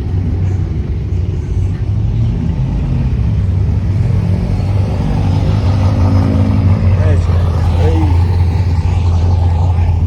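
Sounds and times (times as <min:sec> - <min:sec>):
car engine and exhaust rumbling: 0:00.0 - 0:10.0.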